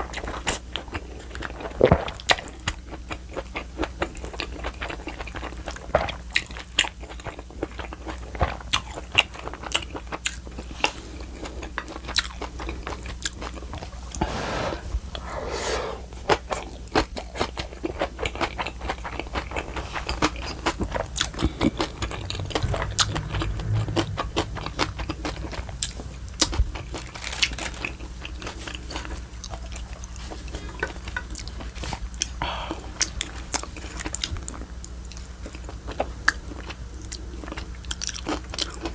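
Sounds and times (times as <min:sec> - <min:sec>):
person chewing and crunching food: 0:00.1 - 0:14.2, 0:16.2 - 0:38.9.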